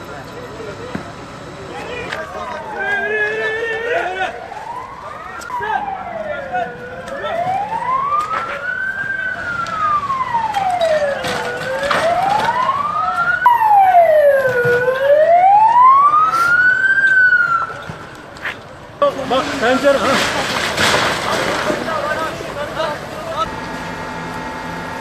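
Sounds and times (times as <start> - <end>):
fire engine siren wailing: 1.4 - 18.3, 19.8 - 25.0.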